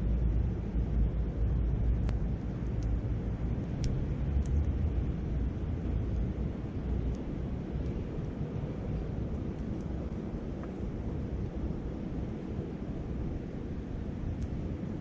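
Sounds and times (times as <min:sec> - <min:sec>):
wind rumble on microphone: 0:00.0 - 0:15.0
campfire crackling: 0:01.6 - 0:15.0.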